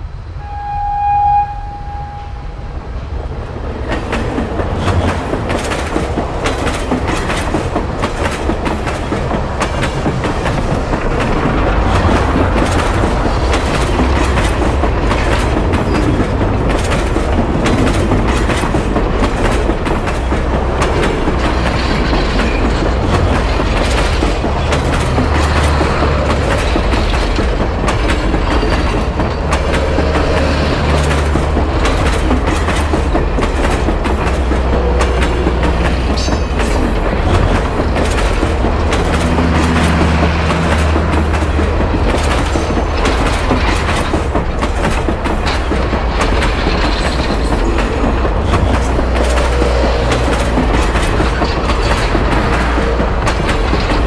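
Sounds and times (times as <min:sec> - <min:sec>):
train rumble: 0:00.0 - 0:54.0
train wheels clacking: 0:03.4 - 0:54.0.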